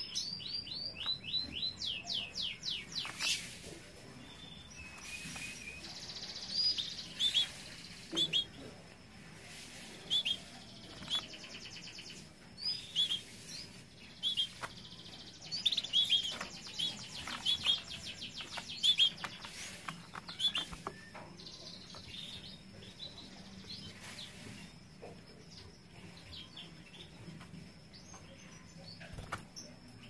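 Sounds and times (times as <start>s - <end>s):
canaries chirping and trilling: 0.0s - 30.0s.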